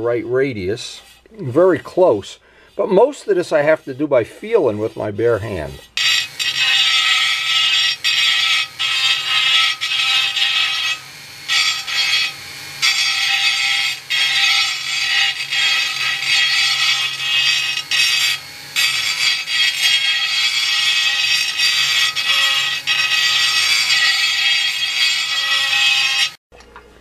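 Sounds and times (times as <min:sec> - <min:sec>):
rotary tool grinding whine: 0:04.4 - 0:26.4.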